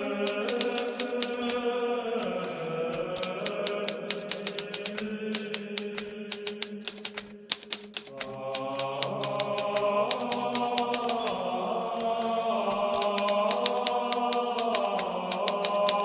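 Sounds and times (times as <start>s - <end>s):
typewriter keys striking: 0.0s - 16.0s.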